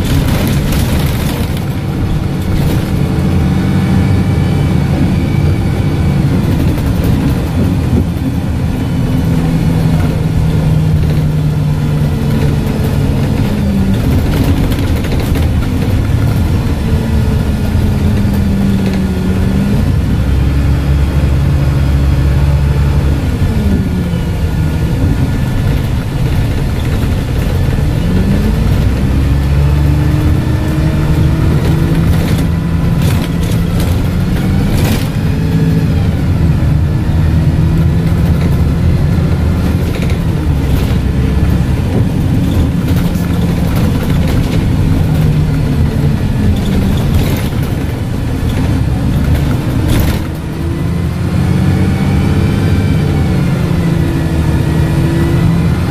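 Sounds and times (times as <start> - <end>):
bus engine and gearbox drone: 0.0 - 55.9.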